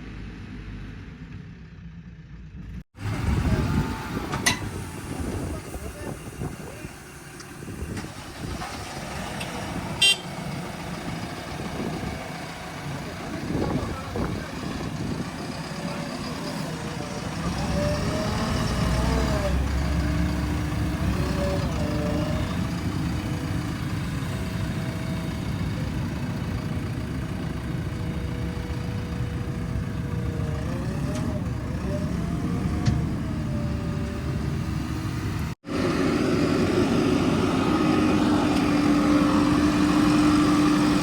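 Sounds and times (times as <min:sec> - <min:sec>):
heavy vehicle engines revving: 0:00.0 - 0:41.0.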